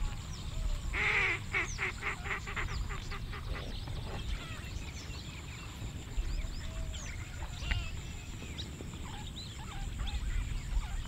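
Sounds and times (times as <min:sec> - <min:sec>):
small birds chirping: 0:00.0 - 0:11.0
wind rumble on microphone: 0:00.0 - 0:11.0.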